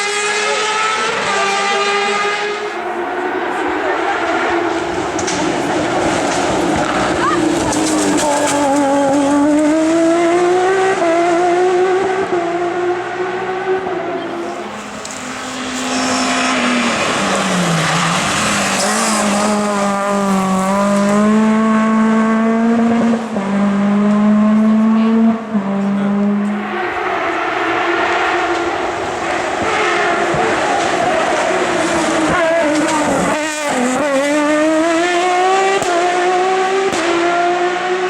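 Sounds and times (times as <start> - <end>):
race car engine revving: 0.0 - 38.0.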